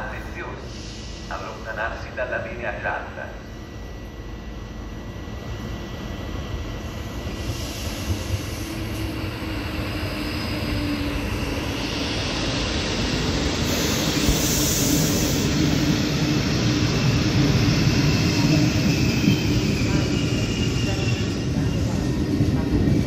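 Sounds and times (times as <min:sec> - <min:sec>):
train rumble and wheel noise: 0:00.0 - 0:23.0.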